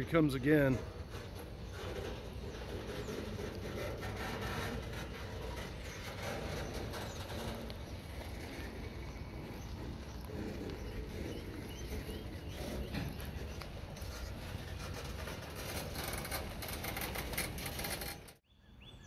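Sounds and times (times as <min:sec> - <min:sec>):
rail cars rumbling and clicking: 0:00.0 - 0:18.4.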